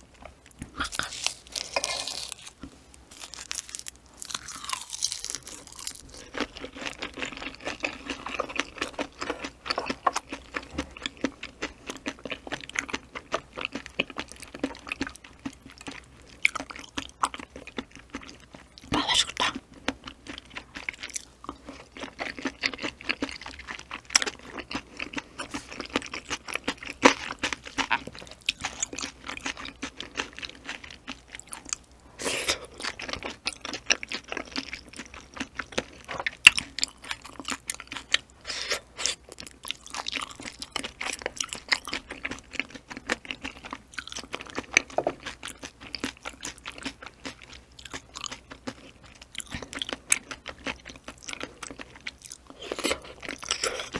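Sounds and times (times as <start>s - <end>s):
wet chewing and mouth smacks: 0.2s - 31.9s, 32.7s - 53.9s.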